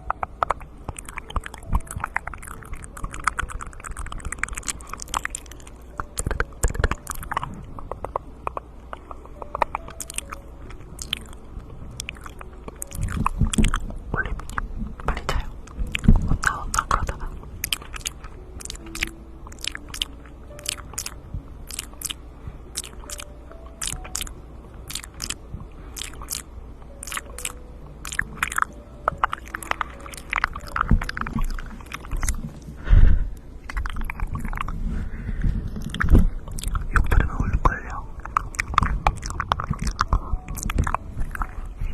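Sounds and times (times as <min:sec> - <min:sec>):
tongue clicks and lip smacks: 0:00.0 - 0:11.4, 0:12.0 - 0:24.3, 0:24.9 - 0:32.5, 0:33.6 - 0:34.8, 0:35.8 - 0:37.3, 0:37.9 - 0:41.7.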